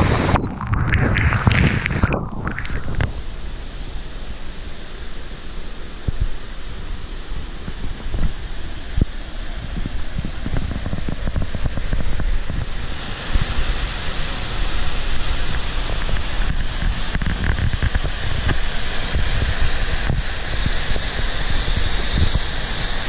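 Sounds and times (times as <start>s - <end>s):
wind buffeting microphone: 0.0s - 3.4s, 7.6s - 22.8s
rushing water: 0.0s - 23.0s.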